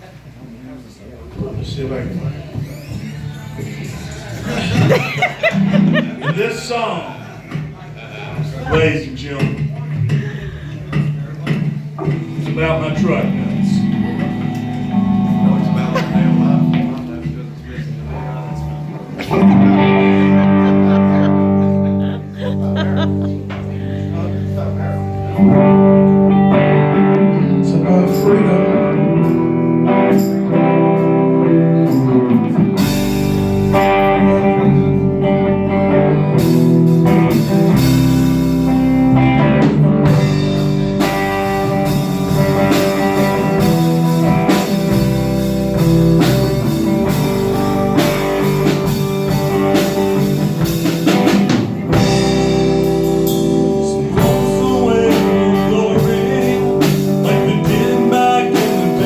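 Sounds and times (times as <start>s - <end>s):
drums: 0.0s - 59.0s
bass guitar: 1.2s - 59.0s
electric guitar: 1.4s - 59.0s.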